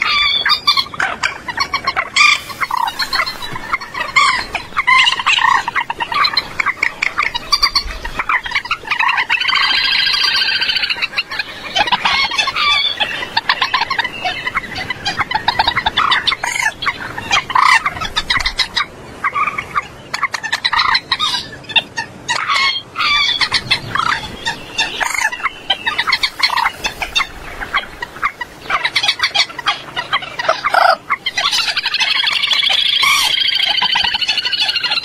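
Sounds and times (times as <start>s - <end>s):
moorhen croaking and clucking: 0.0s - 35.0s.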